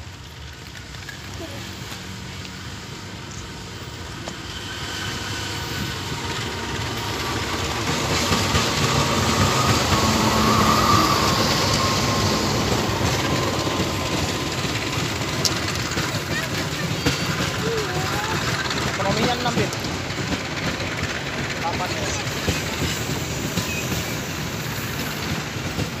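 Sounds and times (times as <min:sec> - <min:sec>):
diesel locomotive passing: 0:00.0 - 0:26.0
train coaches rolling by: 0:00.0 - 0:26.0.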